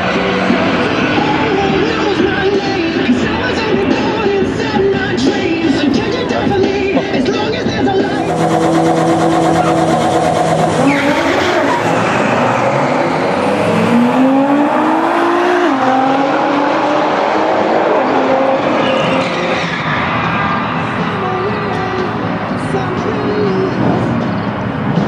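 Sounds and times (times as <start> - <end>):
race car engines revving and accelerating: 0.0 - 25.0.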